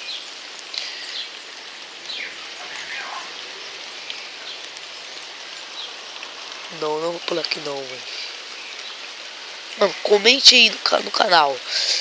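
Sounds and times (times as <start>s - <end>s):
bird calls: 0.0s - 10.9s
rain falling and dripping: 0.0s - 12.0s.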